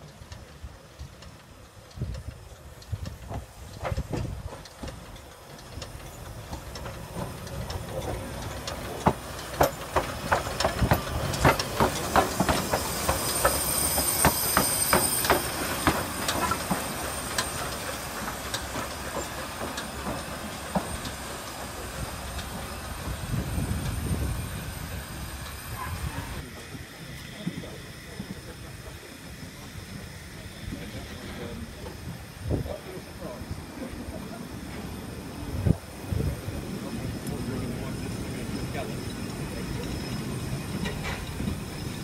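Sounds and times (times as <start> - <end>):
wheels clicking over rail joints: 0.0 - 30.0, 30.7 - 42.0
steam hissing: 0.0 - 42.0
steam locomotive passing: 0.0 - 42.0.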